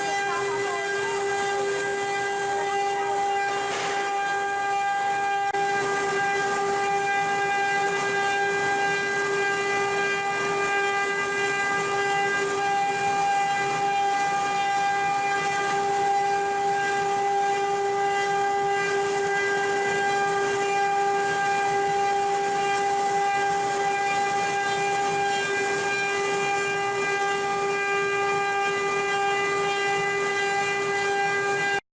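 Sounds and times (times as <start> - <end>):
machine spindle whining: 0.0 - 31.8.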